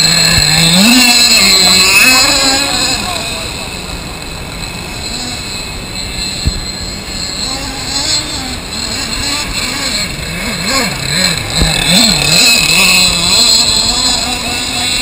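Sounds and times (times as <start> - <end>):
model boat engine buzzing whine: 0.0 - 15.0.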